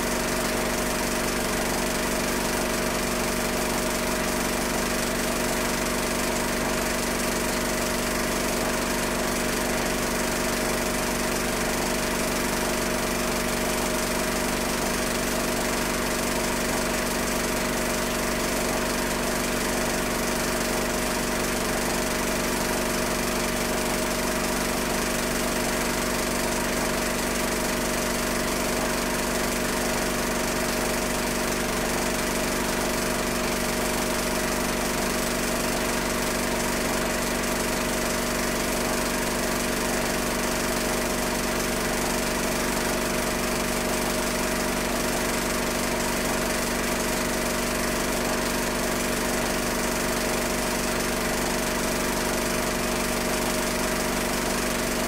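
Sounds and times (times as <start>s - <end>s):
film projector drone: 0.0s - 55.0s.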